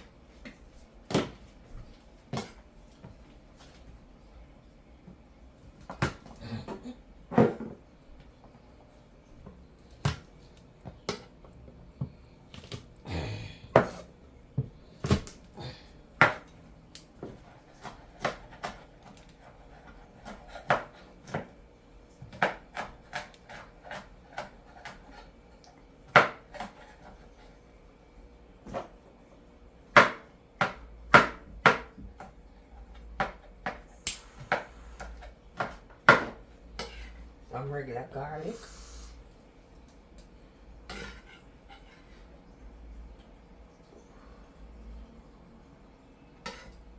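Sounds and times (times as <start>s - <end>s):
faint steady hum: 0.0s - 46.9s.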